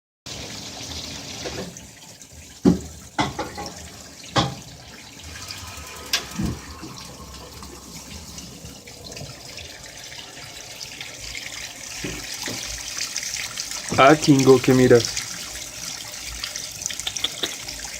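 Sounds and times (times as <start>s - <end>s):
water running into washing machine: 0.3s - 17.9s.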